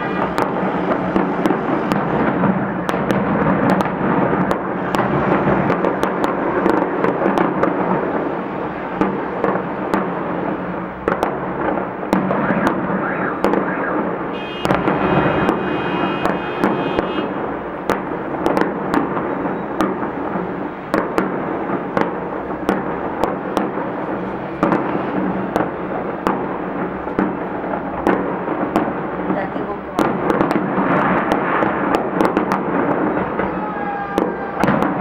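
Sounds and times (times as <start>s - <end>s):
firework bangs: 0.0s - 35.0s.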